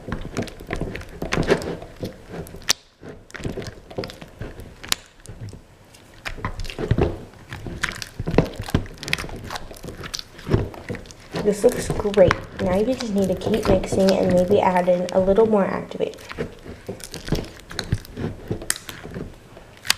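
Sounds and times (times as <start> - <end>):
sticky slime squelches: 0.0 - 19.9.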